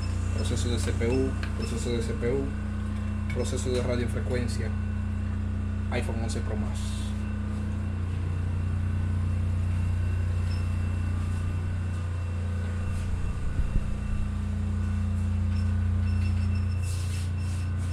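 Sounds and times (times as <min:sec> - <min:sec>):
low machine hum: 0:00.0 - 0:17.9.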